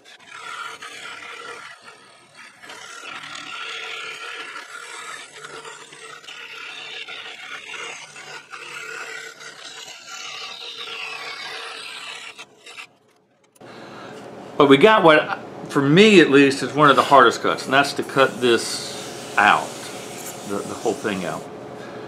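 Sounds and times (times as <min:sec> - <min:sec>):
saw blade rasping through wood: 0:00.0 - 0:13.0, 0:16.8 - 0:21.5
scroll saw motor hum: 0:00.0 - 0:13.6, 0:16.8 - 0:21.5.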